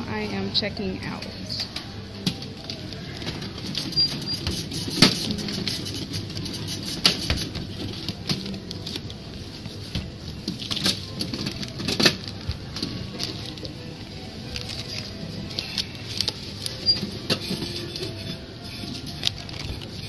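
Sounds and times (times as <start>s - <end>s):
busy store hum: 0.0s - 20.0s.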